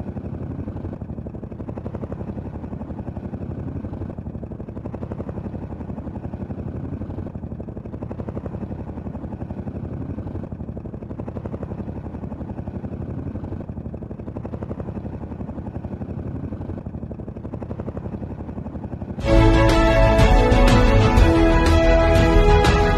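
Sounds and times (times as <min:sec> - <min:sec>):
helicopter rotor chop: 0:00.0 - 0:22.9.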